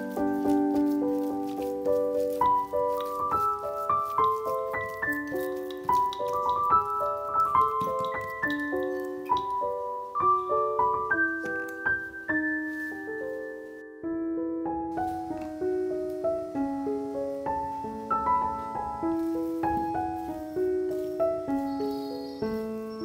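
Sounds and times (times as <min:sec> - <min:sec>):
piano melody: 0:00.0 - 0:23.0.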